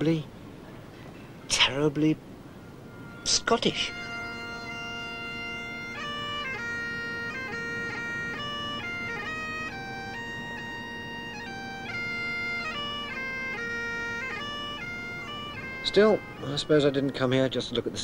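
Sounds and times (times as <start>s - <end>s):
bagpipe tune over drones: 1.4s - 18.0s.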